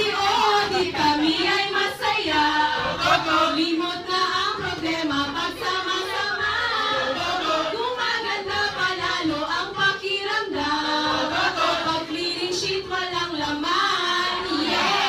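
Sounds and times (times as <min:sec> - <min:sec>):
music with singing voices: 0:00.0 - 0:15.0.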